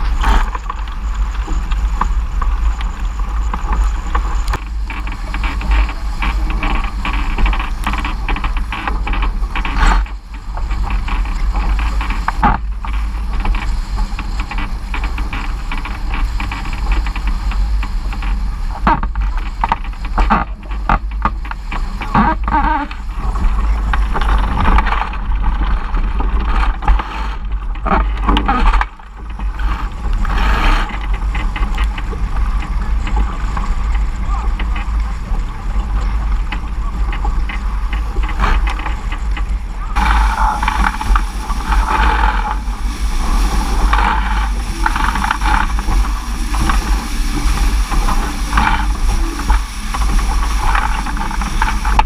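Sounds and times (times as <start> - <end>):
water splashing against hull: 0.0 - 52.0
wind buffeting microphone: 0.0 - 52.0.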